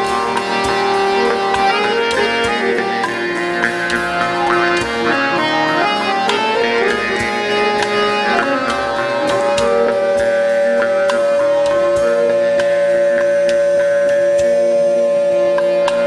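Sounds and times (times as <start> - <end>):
percussion strikes: 0.0 - 16.0
sustained melodic instruments: 0.0 - 16.0.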